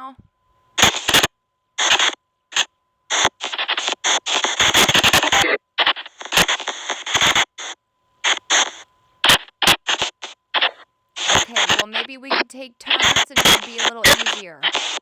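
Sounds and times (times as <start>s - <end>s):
harsh static bursts: 0.8s - 15.0s.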